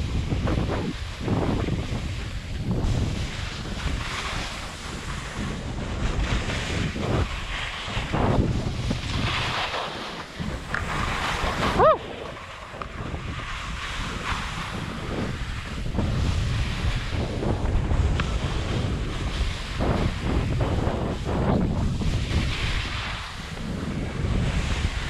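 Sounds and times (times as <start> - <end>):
skis scraping on snow: 0.0 - 25.0
wind noise on microphone: 0.0 - 25.0.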